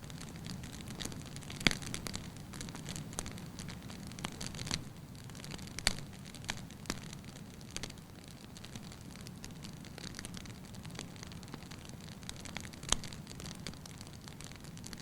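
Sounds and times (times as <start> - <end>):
logs crackling and popping: 0.0 - 15.0.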